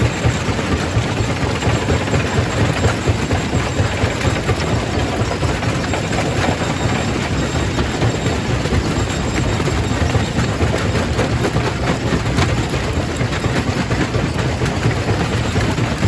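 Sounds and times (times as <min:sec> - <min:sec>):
rock crusher running: 0:00.0 - 0:16.0.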